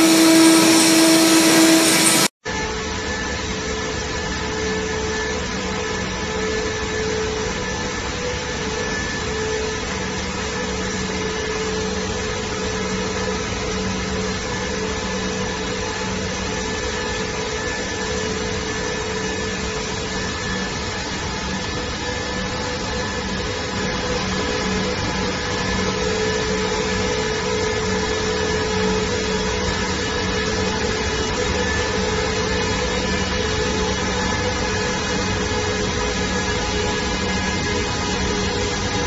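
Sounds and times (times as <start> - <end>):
machine whirring and humming: 0.0 - 39.0.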